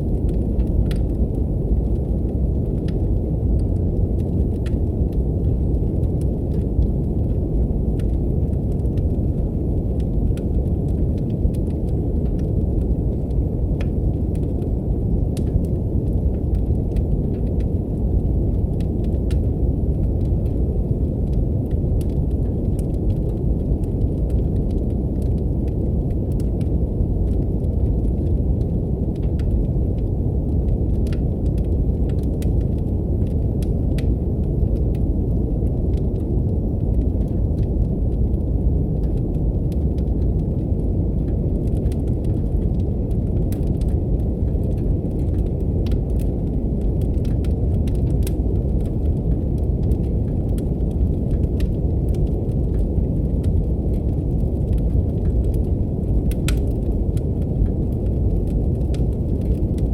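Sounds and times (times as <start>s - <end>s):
deep brown noise: 0.0s - 59.9s
wood fire crackling: 0.0s - 59.9s.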